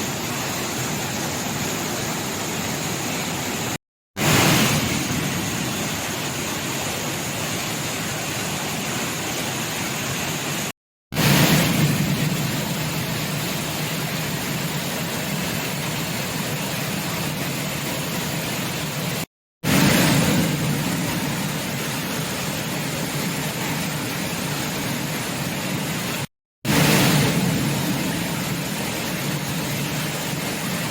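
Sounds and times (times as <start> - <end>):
heavy waterfall rushing: 0.0 - 30.9.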